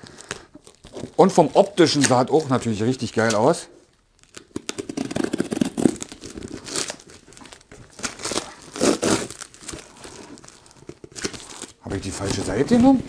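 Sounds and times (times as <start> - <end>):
plastic packaging crinkling and tearing: 0.0 - 13.0.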